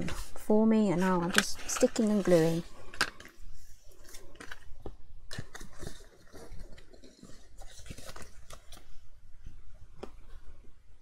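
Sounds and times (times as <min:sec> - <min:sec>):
cardstock rustling: 0:00.0 - 0:09.0.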